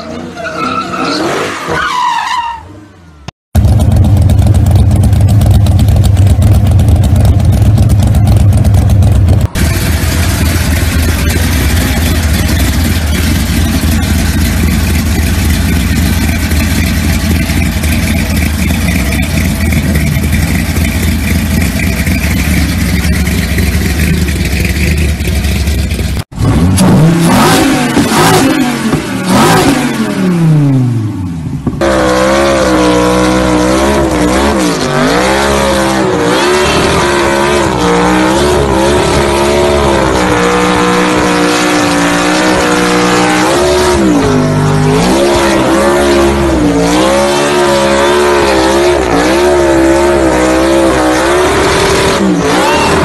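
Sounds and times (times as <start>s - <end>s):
loud car engines running: 3.1s - 53.0s.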